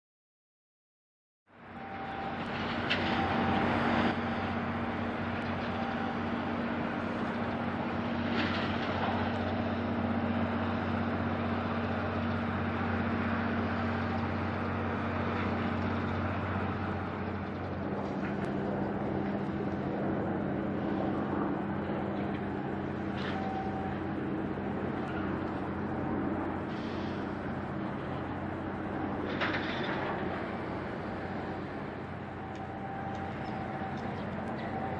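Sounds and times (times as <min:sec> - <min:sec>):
ship diesel engine drone: 0:01.5 - 0:34.9.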